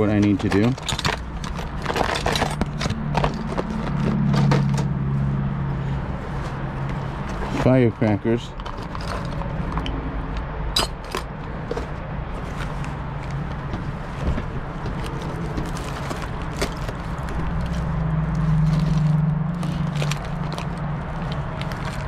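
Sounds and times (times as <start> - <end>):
rummaging through small items: 0.0 - 5.0, 5.8 - 22.0.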